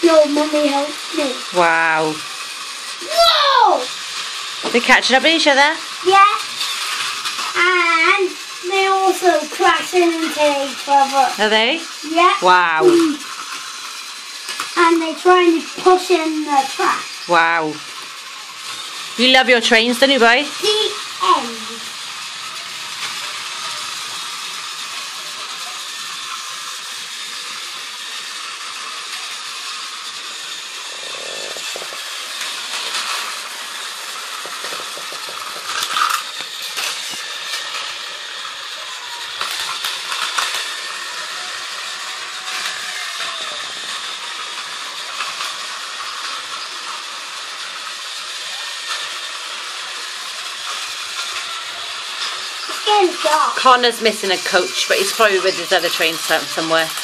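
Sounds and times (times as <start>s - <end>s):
toy train motors whirring: 0.0s - 57.0s.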